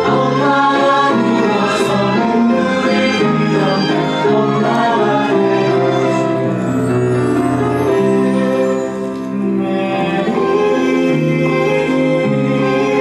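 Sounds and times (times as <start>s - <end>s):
instrumental music with held chords: 0.0s - 13.0s.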